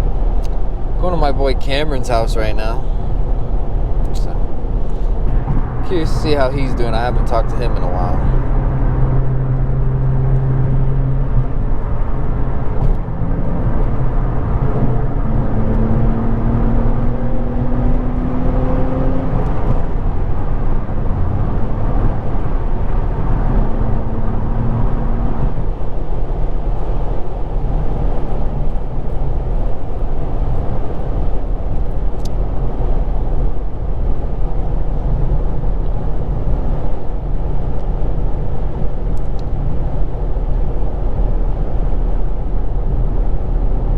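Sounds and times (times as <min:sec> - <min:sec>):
car engine accelerating: 0:00.0 - 0:43.9
road and tyre noise: 0:00.0 - 0:43.9.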